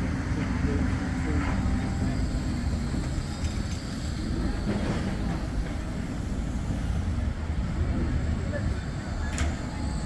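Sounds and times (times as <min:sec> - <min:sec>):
tram running on rails: 0:00.0 - 0:10.0.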